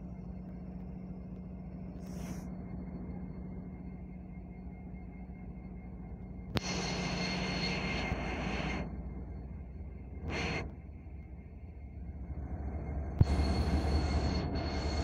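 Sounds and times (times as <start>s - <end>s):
diesel locomotive engines droning: 0.0s - 15.0s
high whine: 0.0s - 15.0s.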